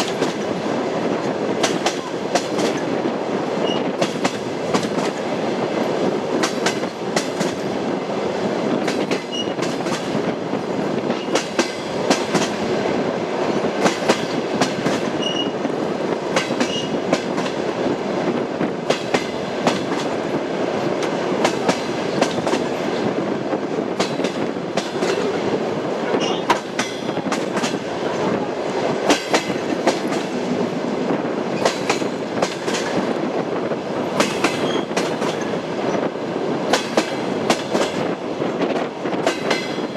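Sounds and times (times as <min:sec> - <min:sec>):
train wheels clacking on rail joints: 0:00.0 - 0:07.9, 0:08.6 - 0:39.9
train rolling rumble: 0:00.0 - 0:39.9.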